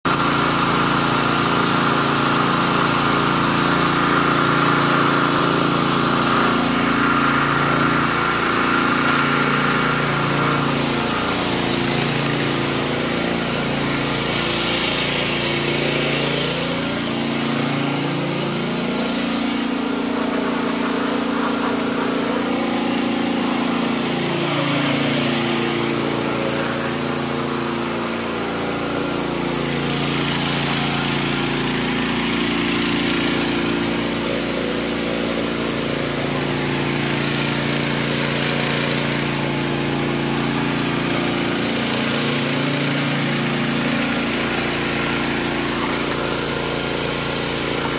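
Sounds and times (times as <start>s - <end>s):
pressure washer engine running: 0.0s - 47.9s.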